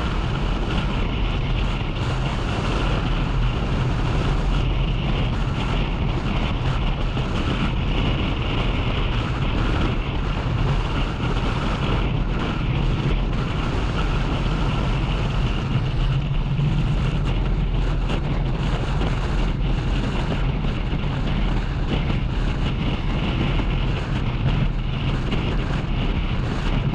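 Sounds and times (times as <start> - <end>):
motorcycle engine running: 0.0 - 26.9
wind rushing over microphone: 0.0 - 26.9.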